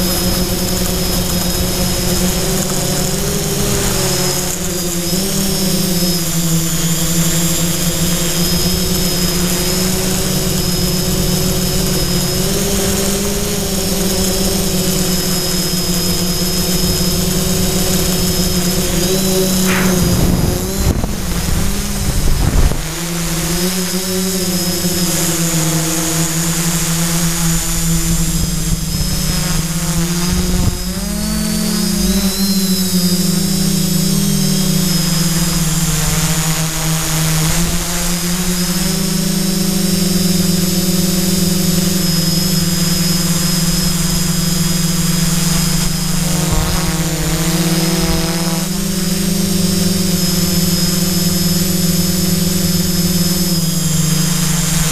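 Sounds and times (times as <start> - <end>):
drone propellers humming and whining: 0.0 - 54.9.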